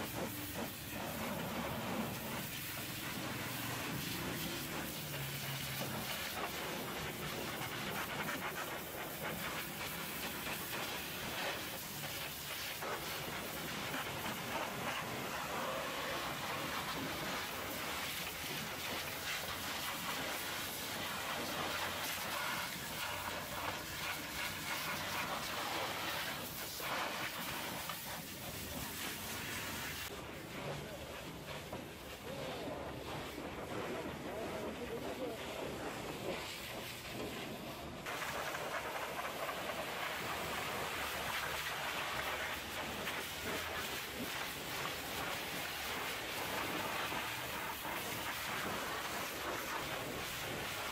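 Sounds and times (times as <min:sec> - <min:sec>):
pressure washer jet hissing: 0:00.0 - 0:50.9.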